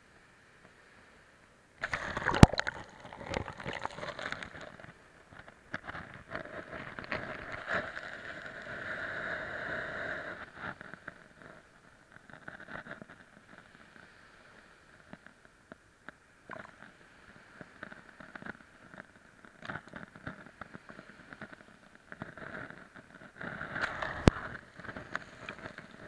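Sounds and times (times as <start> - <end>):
waves washing over camera: 1.8 - 26.0.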